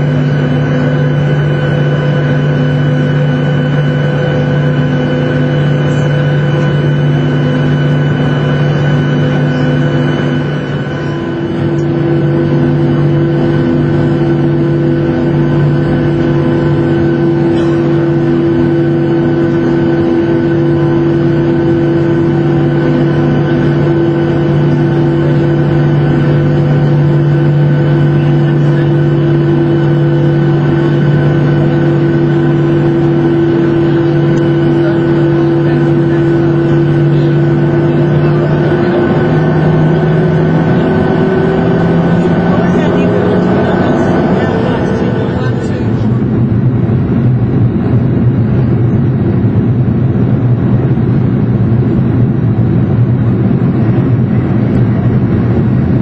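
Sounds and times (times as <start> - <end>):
jet engines humming in cabin: 0.0 - 56.0.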